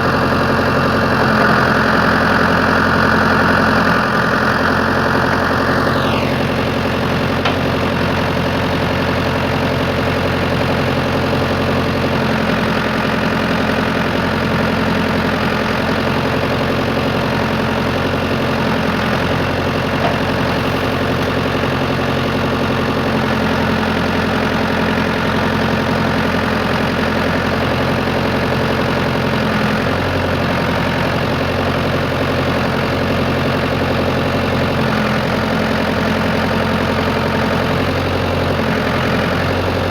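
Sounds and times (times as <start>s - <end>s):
backhoe engine droning: 0.0s - 39.9s.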